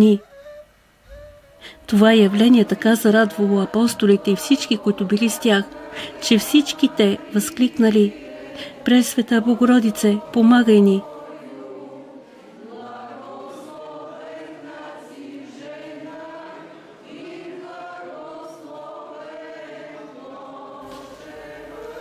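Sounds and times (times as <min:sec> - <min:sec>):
choir chanting: 0:01.2 - 0:22.0.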